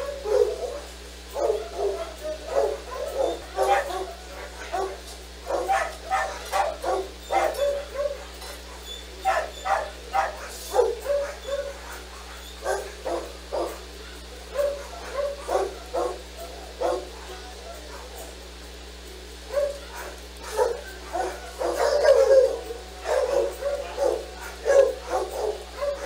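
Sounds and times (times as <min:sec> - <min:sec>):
dogs barking: 0:00.0 - 0:26.0.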